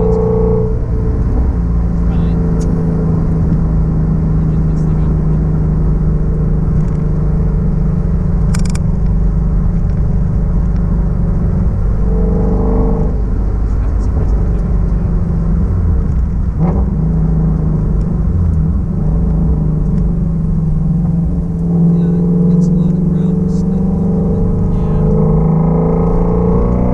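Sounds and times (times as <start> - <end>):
car engine cruising: 0.0 - 26.9.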